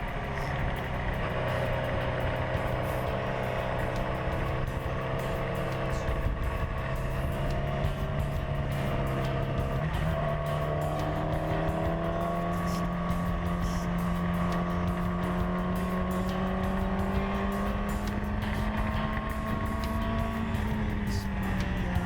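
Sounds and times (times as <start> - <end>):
motorcycle engine under load: 0.0 - 22.0.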